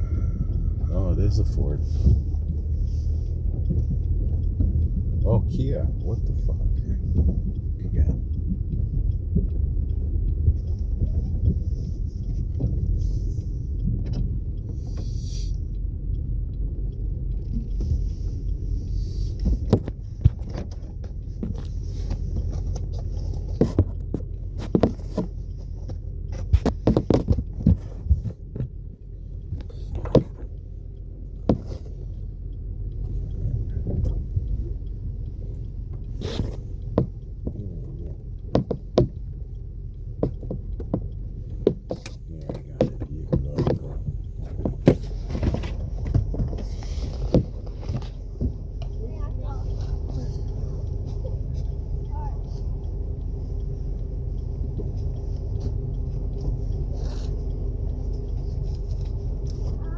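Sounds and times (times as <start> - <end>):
car cabin engine and tyre rumble: 0.0 - 59.9
sharp knocks and clicks: 0.5 - 13.0, 13.7 - 15.1, 19.3 - 59.9.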